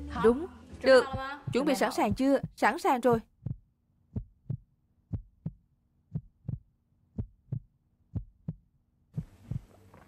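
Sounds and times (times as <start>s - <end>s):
heartbeat thumps: 1.0s - 9.8s.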